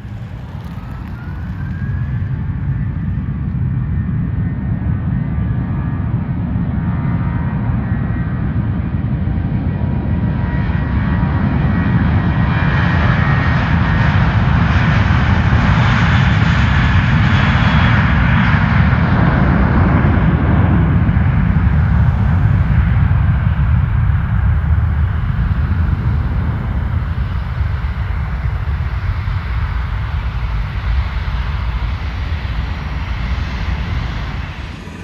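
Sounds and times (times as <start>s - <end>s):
airplane engines rumbling: 0.0s - 35.0s.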